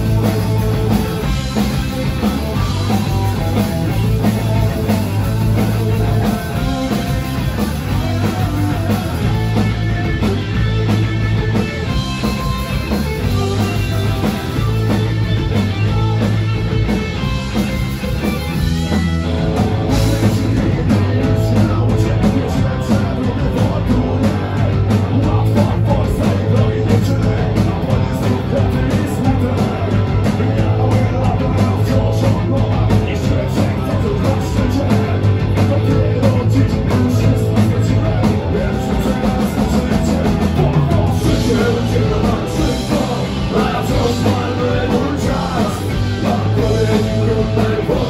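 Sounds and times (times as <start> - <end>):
punk band playing live: 0.0 - 48.0.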